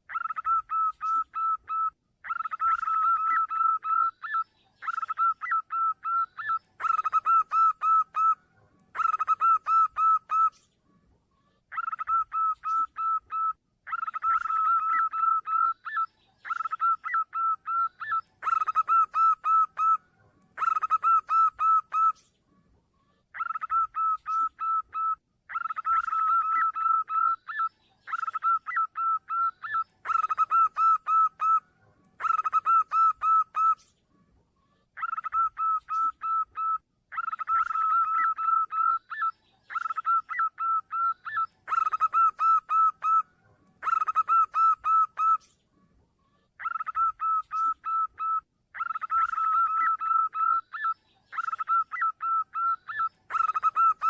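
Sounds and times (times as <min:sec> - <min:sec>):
dove cooing: 0:00.0 - 0:10.7, 0:11.7 - 0:22.3, 0:23.3 - 0:33.9, 0:35.0 - 0:45.5, 0:46.6 - 0:54.0.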